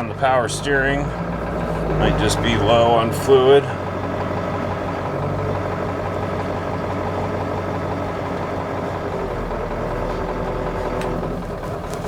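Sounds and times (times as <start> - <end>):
diesel engine idling: 0.0 - 12.0
power steering whine: 0.0 - 12.0.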